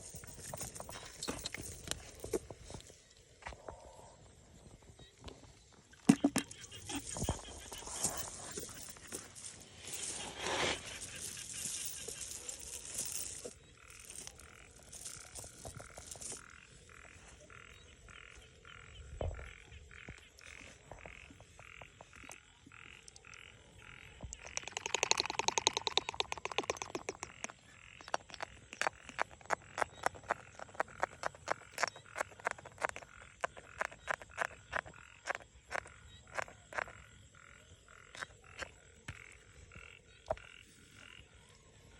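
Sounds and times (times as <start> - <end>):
frogs croaking: 0.0 - 41.9.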